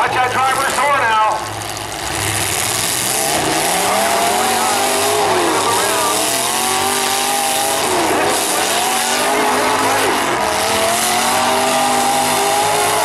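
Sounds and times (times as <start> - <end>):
steady noisy rush: 0.0 - 13.0
truck engines revving hard: 0.0 - 13.0.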